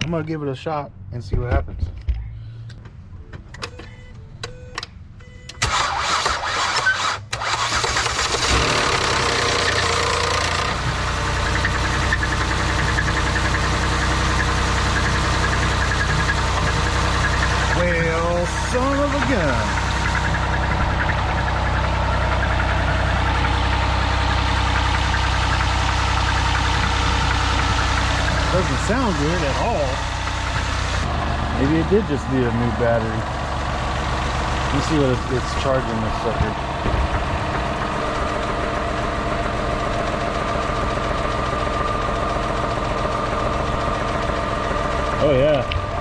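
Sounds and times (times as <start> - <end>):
car engine idling with knock: 8.4 - 46.0.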